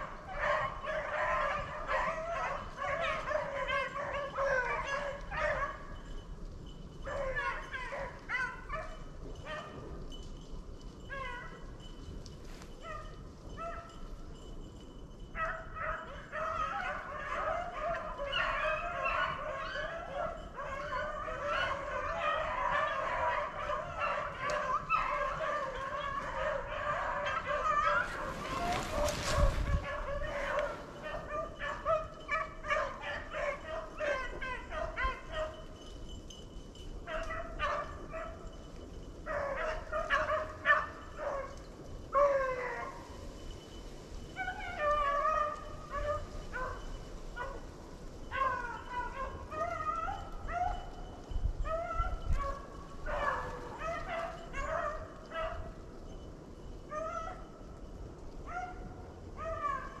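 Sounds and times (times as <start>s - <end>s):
dogs baying and barking: 0.0s - 60.0s.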